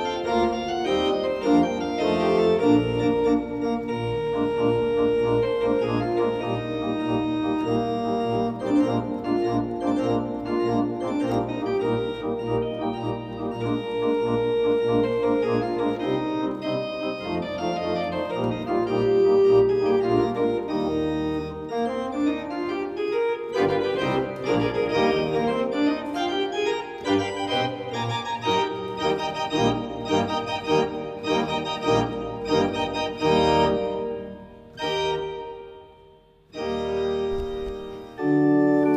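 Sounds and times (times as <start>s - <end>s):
organ playing: 0.0s - 38.9s.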